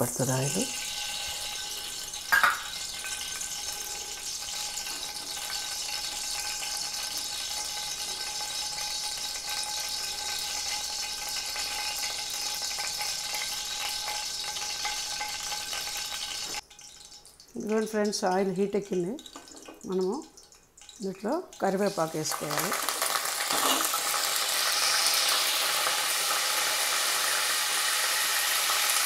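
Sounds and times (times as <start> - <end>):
oil hissing and sizzling: 0.0 - 29.0.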